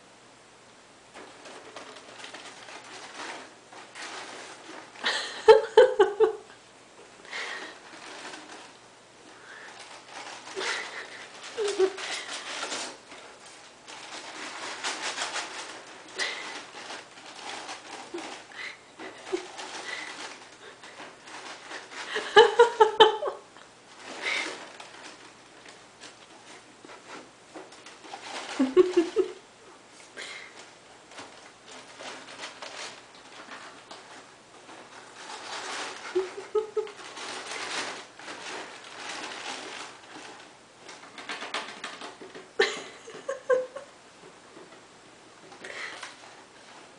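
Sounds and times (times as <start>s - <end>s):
gerbils scratching in bedding: 1.1s - 5.4s, 7.3s - 23.3s, 23.9s - 42.5s.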